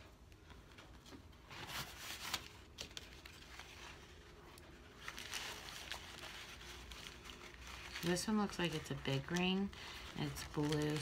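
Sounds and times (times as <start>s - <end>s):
paper towel rustling: 0.0s - 11.0s.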